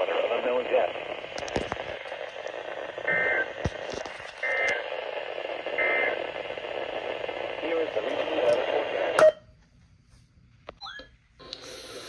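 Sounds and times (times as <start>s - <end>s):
radio hiss: 0.0s - 9.3s, 11.4s - 12.0s.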